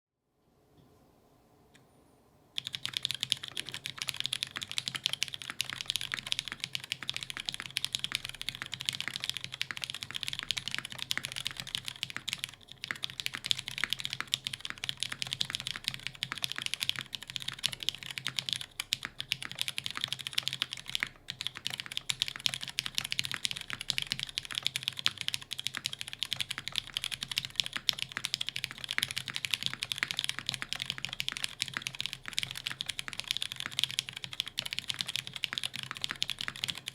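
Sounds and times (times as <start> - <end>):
mechanical keyboard typing: 2.6 - 36.9.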